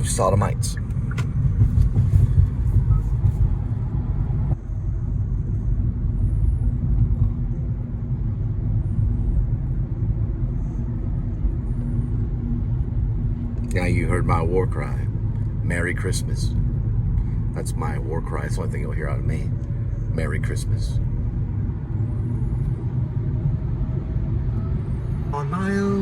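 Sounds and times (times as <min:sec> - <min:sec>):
car interior low rumble: 0:00.0 - 0:26.0.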